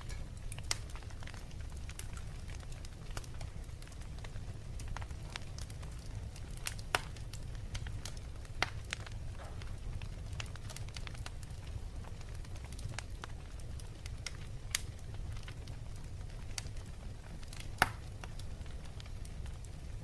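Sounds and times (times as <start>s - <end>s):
sharp pops of burning wood: 0.0s - 19.9s
wood fire crackling: 0.0s - 20.0s.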